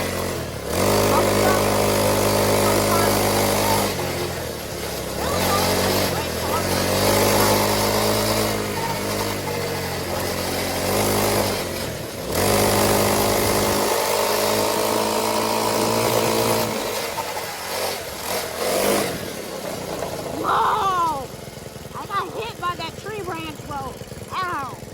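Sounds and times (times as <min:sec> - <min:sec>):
small motorcycle engine running: 0:00.0 - 0:24.9.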